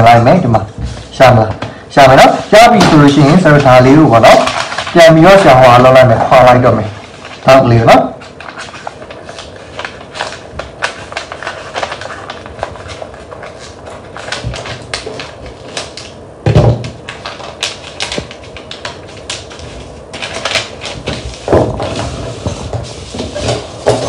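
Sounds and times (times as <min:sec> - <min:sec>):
paper rustling and crinkling: 0:02.0 - 0:16.2, 0:16.8 - 0:24.0.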